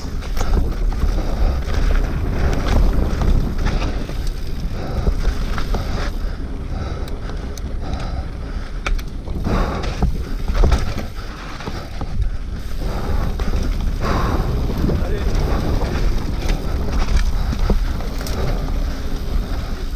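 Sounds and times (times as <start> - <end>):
bike rattling over bumps: 0.0 - 19.9
tyres rumbling on dirt: 0.0 - 19.9
wind buffeting microphone: 0.0 - 19.9.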